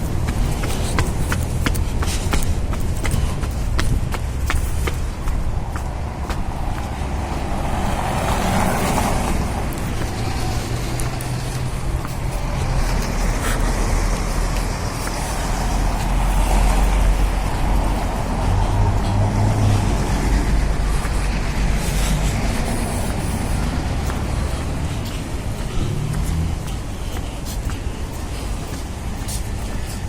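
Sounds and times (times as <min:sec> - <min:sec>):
road traffic passing: 0:00.0 - 0:30.0
wind buffeting microphone: 0:00.0 - 0:30.0.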